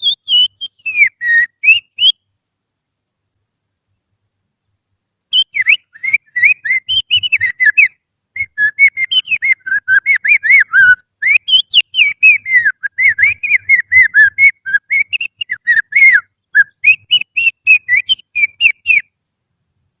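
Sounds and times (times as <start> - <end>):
finger whistle imitating birdsong: 0.0 - 2.3, 5.3 - 19.2.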